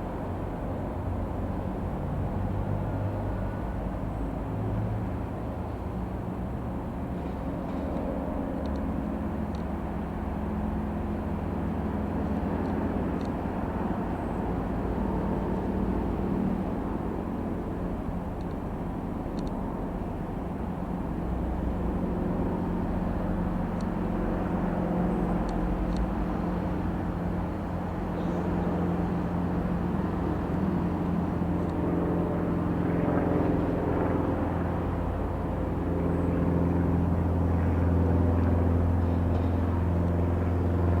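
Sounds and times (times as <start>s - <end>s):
propeller airplane engine: 0.0s - 41.0s.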